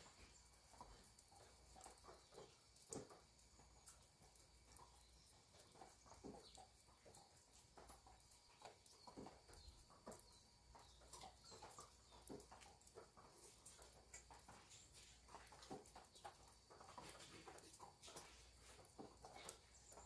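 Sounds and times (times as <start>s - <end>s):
distant animal calls and chirps: 0.0s - 20.0s.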